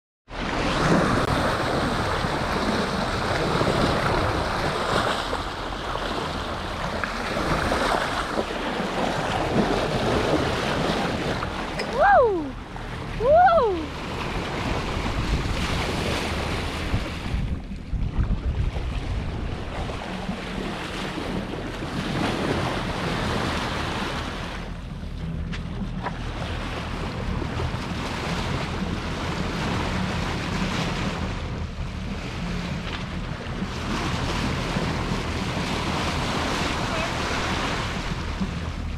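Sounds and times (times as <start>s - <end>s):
water rushing along boat bow: 0.2s - 38.9s
wind buffeting microphone: 0.5s - 38.9s.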